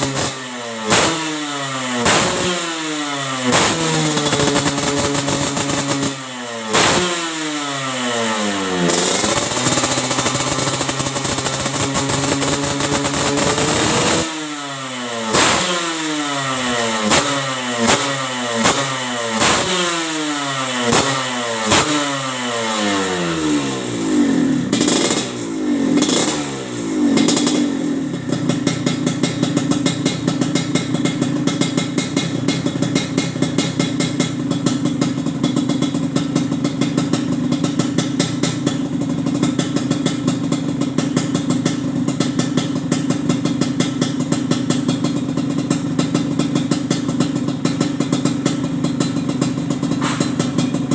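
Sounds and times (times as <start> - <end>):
motorcycle engine idling: 0.0 - 15.4, 20.4 - 50.9
motorcycle engine revving: 0.0 - 50.9.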